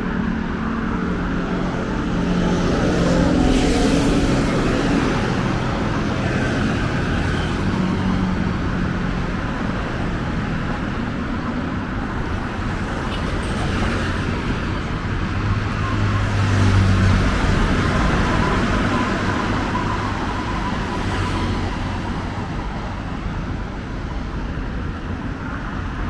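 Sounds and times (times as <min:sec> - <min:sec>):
low engine drone: 0:00.0 - 0:26.0
road traffic passing: 0:00.0 - 0:26.0.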